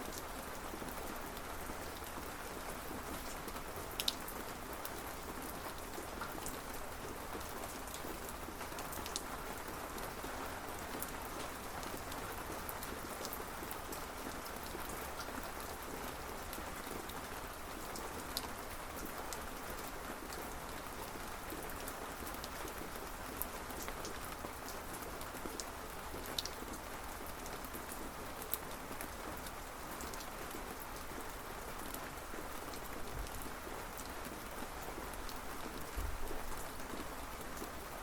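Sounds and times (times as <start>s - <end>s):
steady rainfall: 0.0s - 38.0s
raindrops ticking on a surface: 0.1s - 38.0s.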